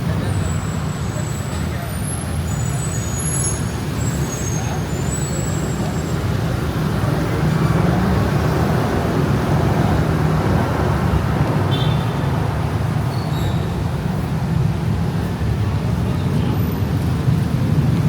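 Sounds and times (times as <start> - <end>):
car and bus engines rumbling: 0.0 - 18.0.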